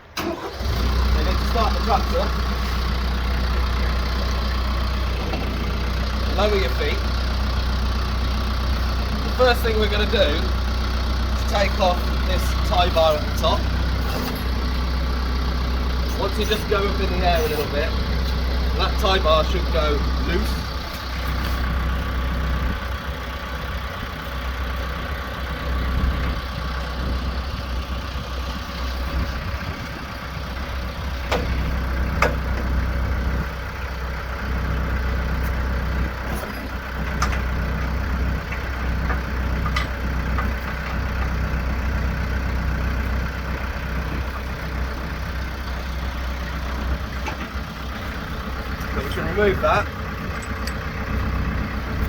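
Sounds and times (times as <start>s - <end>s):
tractor engine idling: 0.0s - 52.0s.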